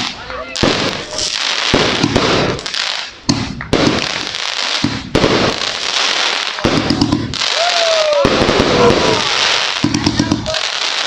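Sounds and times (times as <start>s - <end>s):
fireworks crackling: 0.0s - 11.0s
fireworks shots and bursts: 0.0s - 11.0s.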